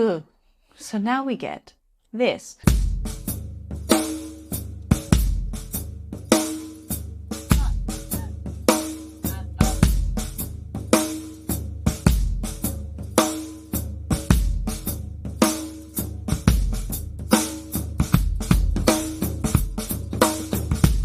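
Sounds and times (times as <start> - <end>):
drum kit groove: 2.6 - 21.0.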